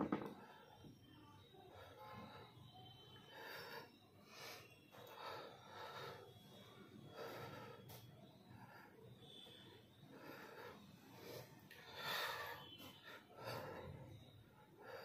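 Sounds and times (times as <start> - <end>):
man breathing with strain: 0.1 - 15.0.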